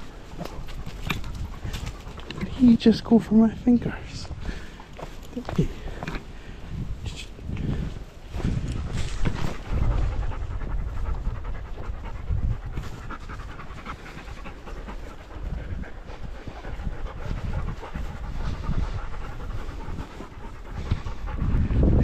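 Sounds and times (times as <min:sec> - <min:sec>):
dog panting: 0:00.0 - 0:06.8, 0:07.6 - 0:22.0.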